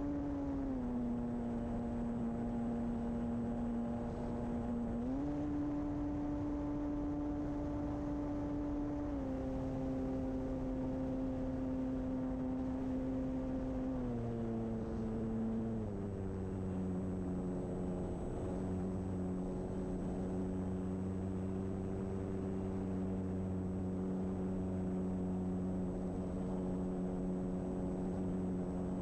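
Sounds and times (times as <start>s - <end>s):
electric motor and propeller humming: 0.0s - 29.0s.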